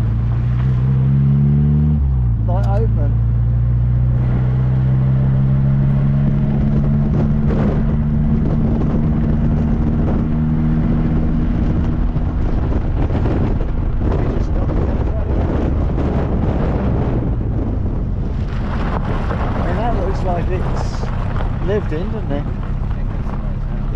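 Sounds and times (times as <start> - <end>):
car engine hum: 0.0 - 23.9
road rumble: 0.0 - 23.9
wind noise: 0.0 - 23.9.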